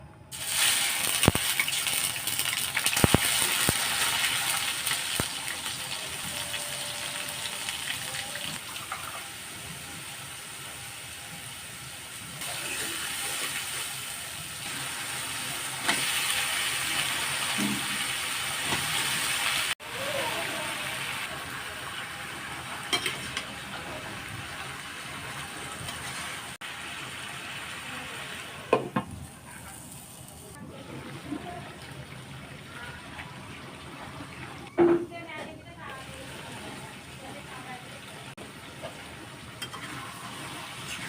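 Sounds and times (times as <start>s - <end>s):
food sizzling in a pan: 0.3s - 34.7s, 35.5s - 41.0s.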